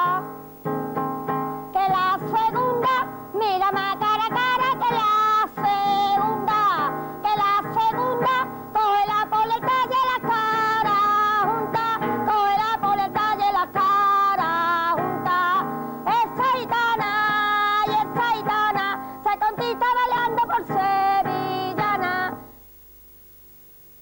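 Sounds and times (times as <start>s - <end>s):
strummed nylon-string guitar: 0.0s - 22.6s
woman singing with vibrato: 0.0s - 22.6s.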